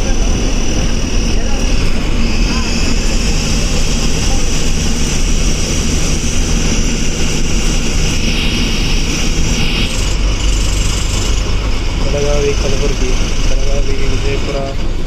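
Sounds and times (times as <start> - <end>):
bus engine humming: 0.0 - 15.0
road noise: 0.0 - 15.0.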